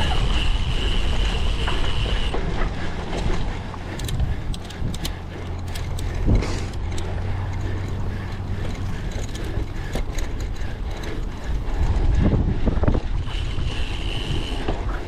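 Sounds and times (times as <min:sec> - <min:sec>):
bike rattles and clicks: 0:00.0 - 0:15.0
tyres rumbling on rough ground: 0:00.0 - 0:15.0
wind rushing over microphone: 0:00.0 - 0:15.0.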